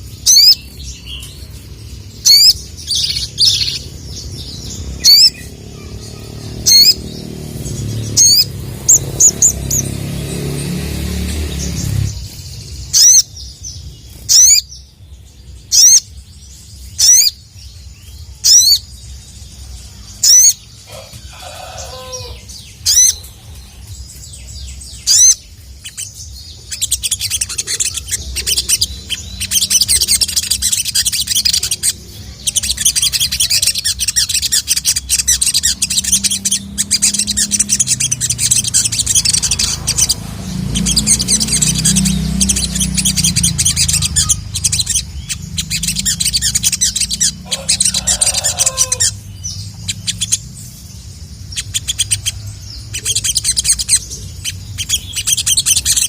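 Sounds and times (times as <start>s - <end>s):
bird singing sharp notes and twitters: 0.0s - 56.0s.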